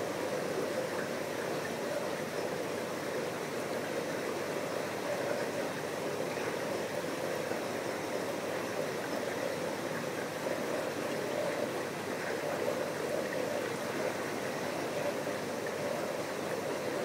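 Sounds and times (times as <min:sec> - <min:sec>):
water rushing in aquarium: 0:00.0 - 0:17.0.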